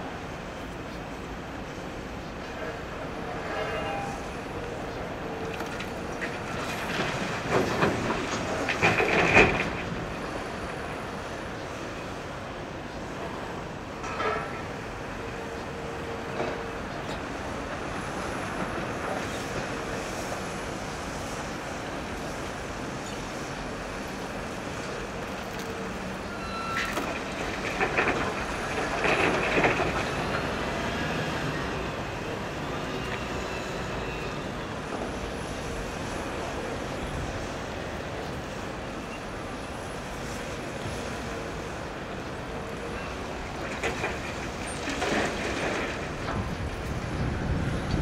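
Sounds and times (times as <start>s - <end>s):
excavator engine and hydraulics: 0.0s - 48.0s.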